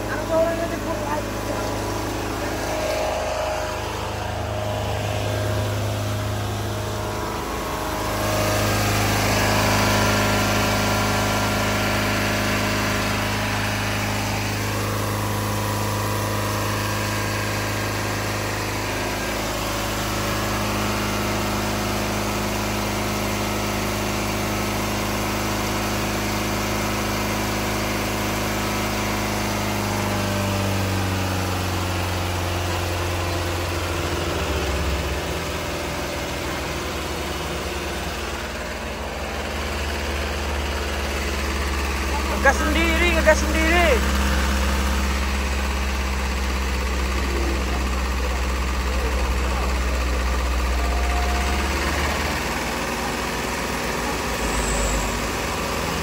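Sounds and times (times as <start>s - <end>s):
diesel engine revving high: 0.0s - 56.0s.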